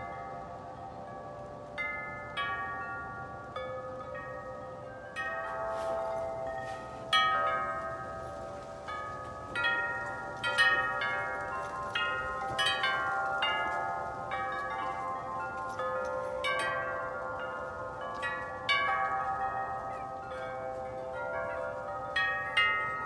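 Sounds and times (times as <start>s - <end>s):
wind chimes ringing: 0.0s - 23.0s.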